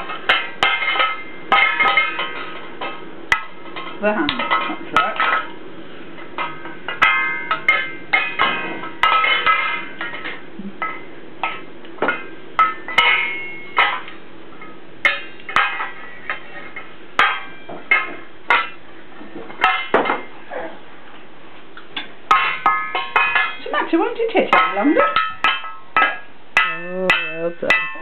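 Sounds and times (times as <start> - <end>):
wooden spoon banging metal lids: 0.0 - 5.6, 6.2 - 20.4, 22.0 - 28.0.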